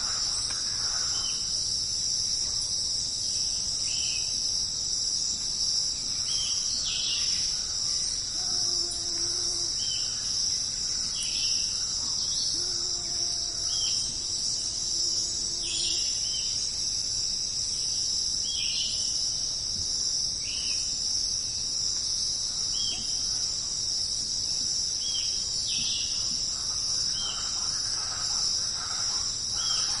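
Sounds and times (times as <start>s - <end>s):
insect chorus buzzing: 0.0s - 30.0s.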